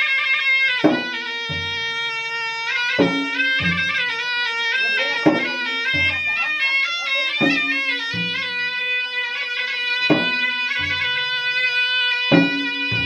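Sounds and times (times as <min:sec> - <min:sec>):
shawm playing melody: 0:00.0 - 0:13.0
drums thudding and cracking: 0:00.7 - 0:06.6, 0:07.2 - 0:09.3, 0:10.0 - 0:13.0.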